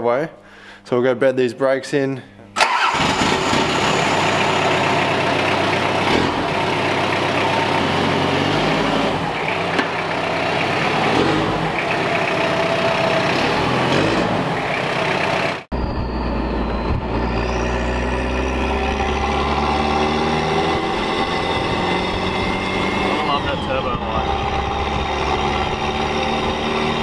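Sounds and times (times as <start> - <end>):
diesel engine idling: 2.6 - 27.0
engine drone inside cab: 4.7 - 27.0.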